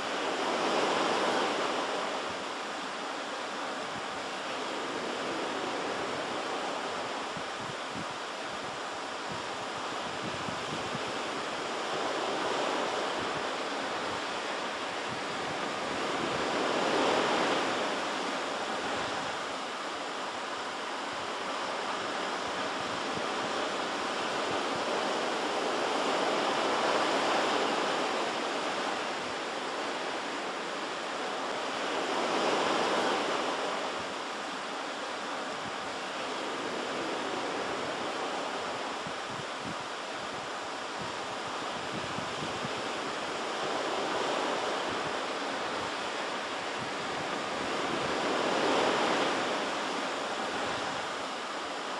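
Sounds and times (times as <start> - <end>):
waves breaking on shore: 0.0 - 51.9.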